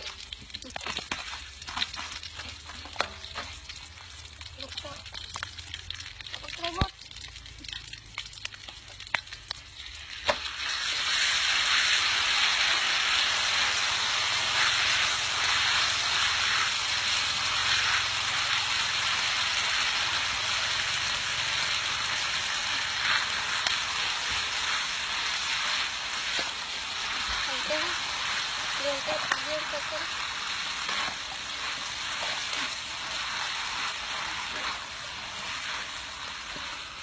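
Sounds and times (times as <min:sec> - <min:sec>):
food sizzling in a hot pan: 0:00.0 - 0:37.0.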